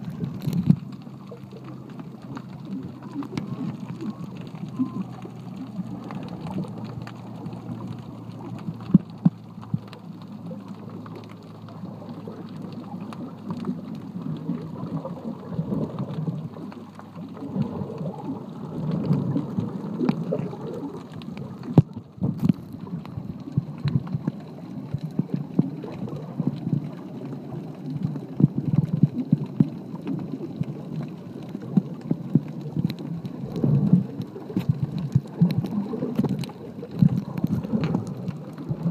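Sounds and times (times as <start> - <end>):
small underwater clicks and pops: 0.0 - 38.9
underwater rushing water: 0.0 - 38.9.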